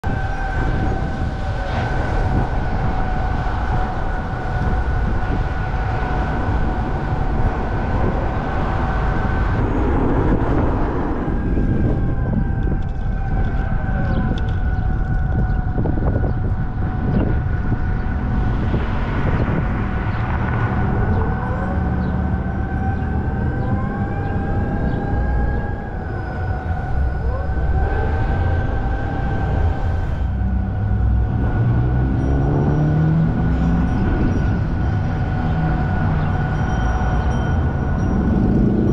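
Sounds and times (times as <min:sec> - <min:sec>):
road and wind noise: 0:00.0 - 0:38.9
steady high whine: 0:00.0 - 0:38.9.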